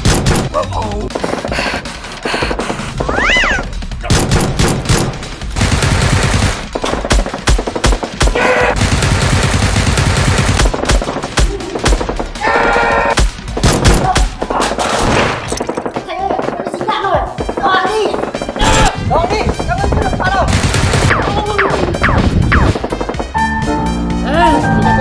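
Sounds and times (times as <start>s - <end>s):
machine-gun fire: 0.0s - 2.0s, 2.6s - 19.6s, 20.4s - 23.4s
music: 0.0s - 25.0s.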